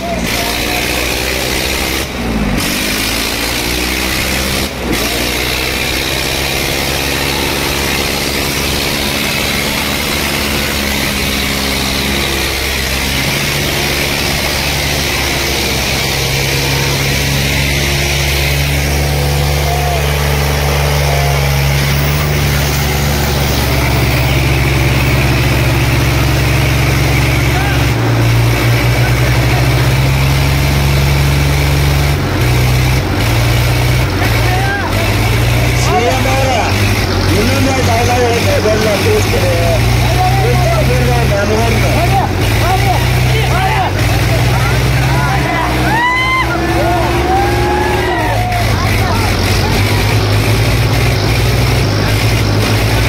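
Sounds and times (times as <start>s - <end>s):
diesel tractor engines running: 0.0s - 53.0s.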